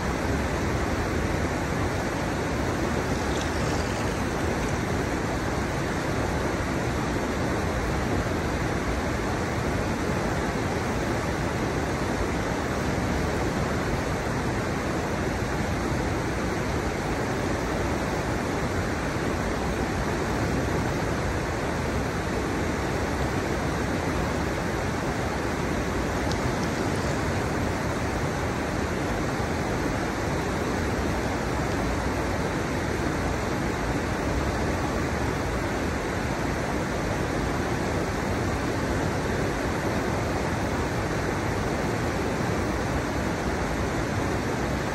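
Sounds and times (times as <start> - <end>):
river water rushing over drops: 0.0 - 44.9.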